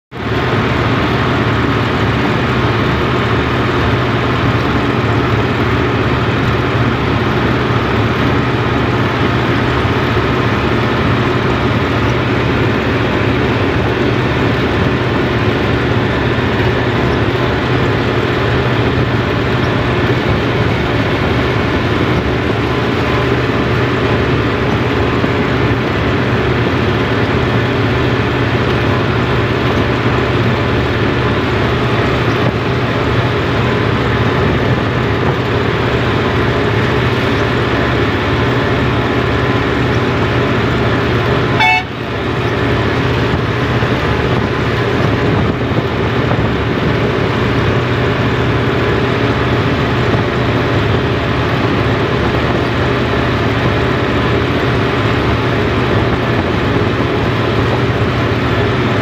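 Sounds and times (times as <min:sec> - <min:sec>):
tractor diesel engine droning: 0:00.1 - 0:59.0.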